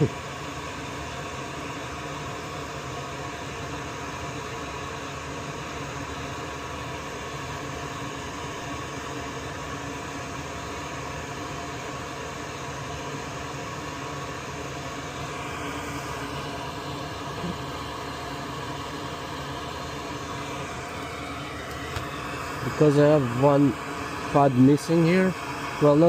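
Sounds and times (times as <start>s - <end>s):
fan-like rushing noise: 0.0s - 26.0s.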